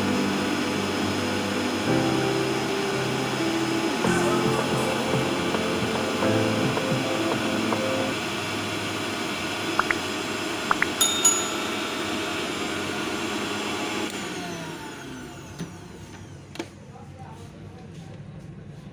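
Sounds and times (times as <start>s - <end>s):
mixer grinder motor whining: 0.0s - 10.6s, 11.7s - 16.6s.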